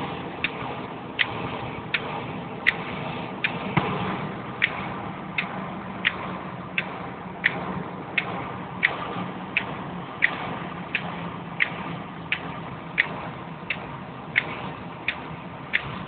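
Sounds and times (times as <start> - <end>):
car engine and road noise: 0.0 - 16.0
windscreen wipers ticking: 0.0 - 16.0.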